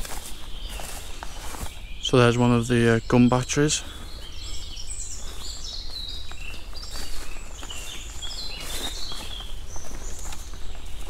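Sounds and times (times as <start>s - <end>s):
small birds singing: 0.0s - 11.0s.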